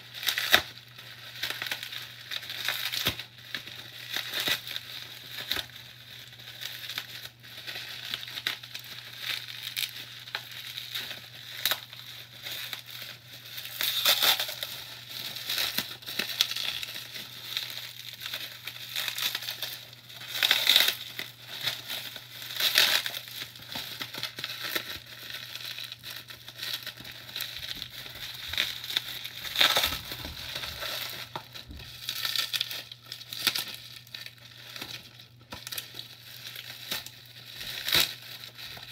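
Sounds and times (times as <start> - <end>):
plastic wrap crinkling: 0.0 - 38.9.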